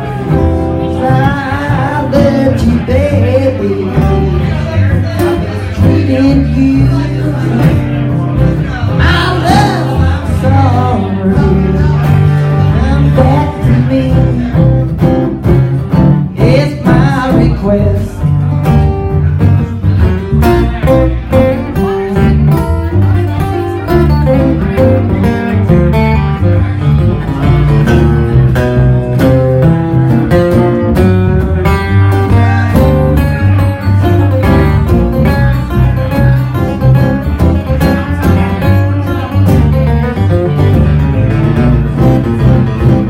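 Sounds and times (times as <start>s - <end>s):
bass line: 0.0s - 43.0s
bluegrass band playing: 0.0s - 43.0s
picked string instruments: 0.0s - 43.0s.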